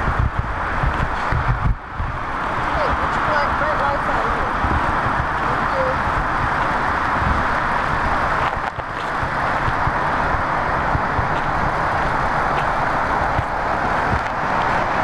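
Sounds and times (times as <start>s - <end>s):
low gusty rumbling: 0.0s - 15.0s
snowstorm wind hissing: 0.0s - 15.0s.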